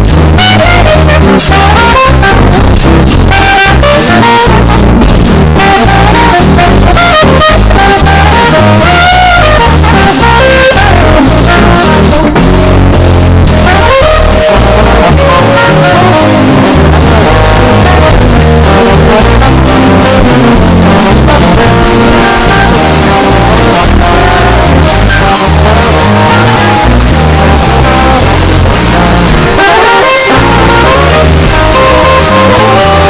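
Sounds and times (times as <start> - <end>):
brass playing: 0.0 - 33.0
drums: 0.0 - 33.0
guitar: 0.0 - 33.0.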